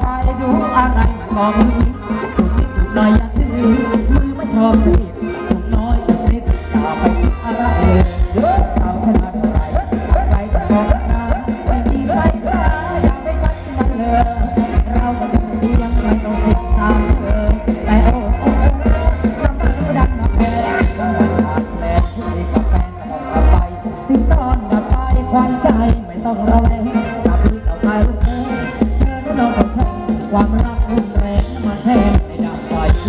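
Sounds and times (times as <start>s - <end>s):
band playing upbeat dance music: 0.0s - 33.0s
heavy drum and bass beat: 0.0s - 33.0s.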